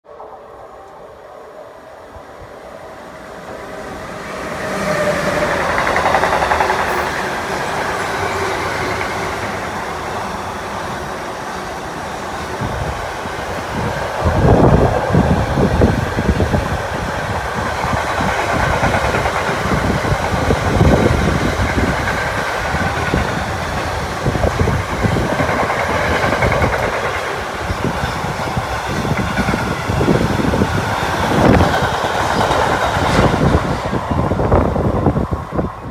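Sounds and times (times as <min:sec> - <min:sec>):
train wheels rumbling on rails: 0:02.3 - 0:35.9.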